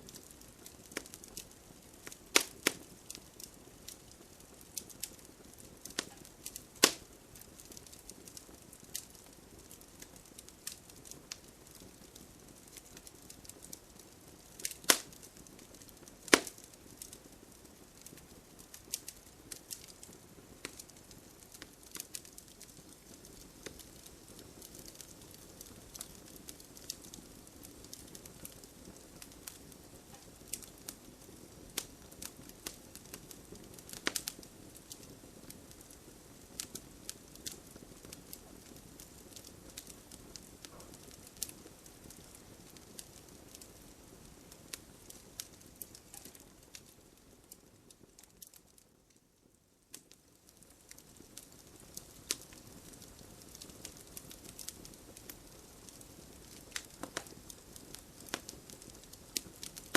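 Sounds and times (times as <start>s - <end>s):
wood crackling and popping: 0.0s - 59.9s.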